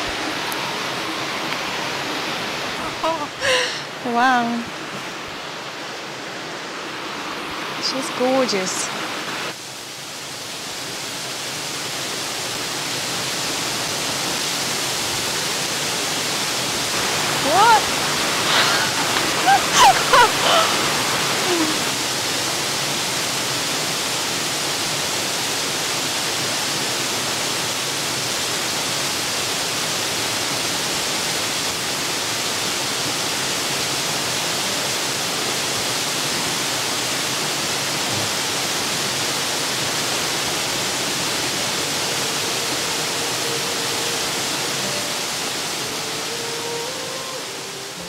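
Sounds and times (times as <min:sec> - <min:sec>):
stream and waterfall rushing: 0:00.0 - 0:48.0.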